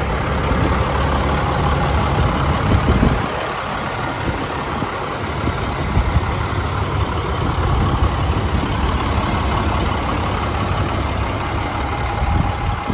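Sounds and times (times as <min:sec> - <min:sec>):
diesel truck engine idling: 0:00.0 - 0:12.9.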